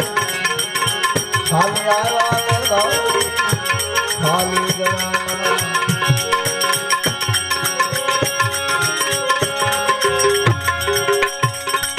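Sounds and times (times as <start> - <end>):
jingling hand cymbals: 0.0 - 11.9.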